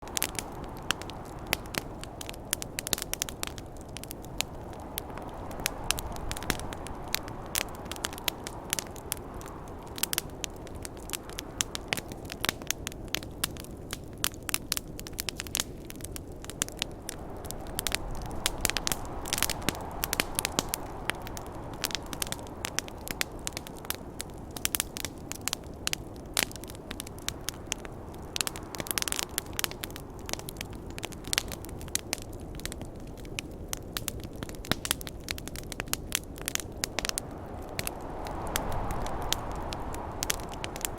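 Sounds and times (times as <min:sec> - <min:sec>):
snowstorm wind rushing: 0:00.0 - 0:14.0, 0:15.0 - 0:31.7, 0:35.8 - 0:40.9
campfire crackling and popping: 0:00.0 - 0:40.9.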